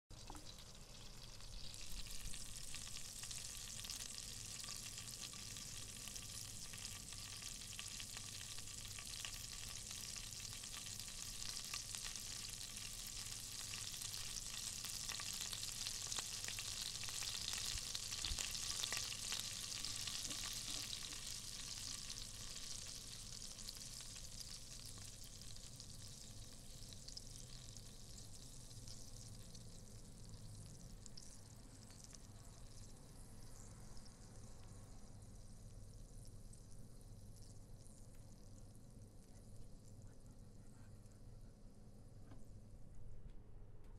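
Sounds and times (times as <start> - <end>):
butter sizzling in a pan: 0.1 - 39.8.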